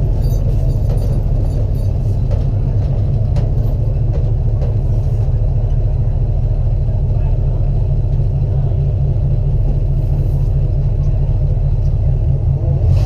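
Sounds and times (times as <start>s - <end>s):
race car engine rumbling: 0.0s - 13.0s.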